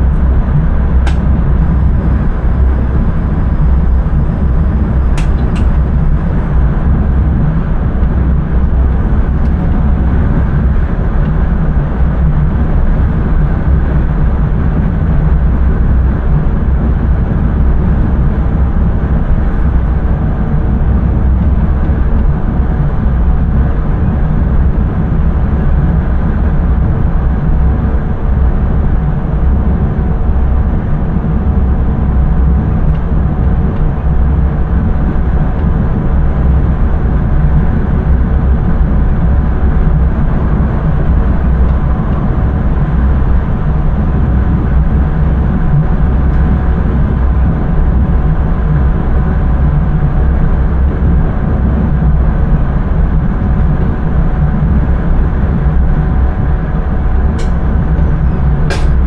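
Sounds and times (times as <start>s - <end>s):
faint humming tones: 0.0s - 59.0s
train rumble: 0.0s - 59.0s.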